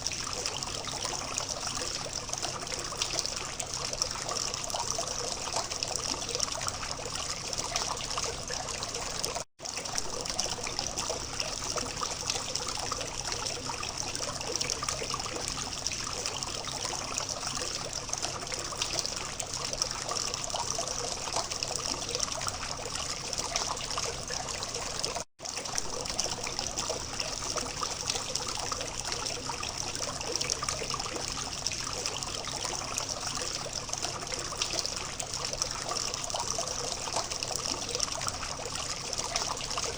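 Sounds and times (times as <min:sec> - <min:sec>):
fountain water trickling and splashing: 0:00.0 - 0:39.9.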